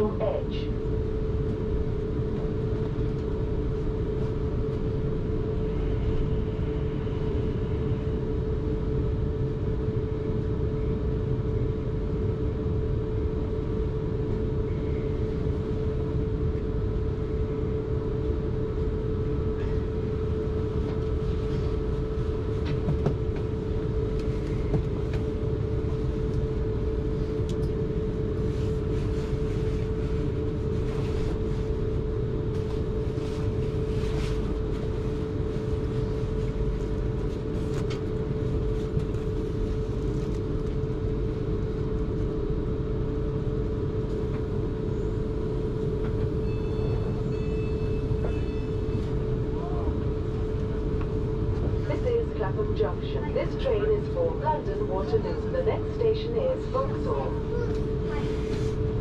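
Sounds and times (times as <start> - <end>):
constant drone: 0.0 - 59.0.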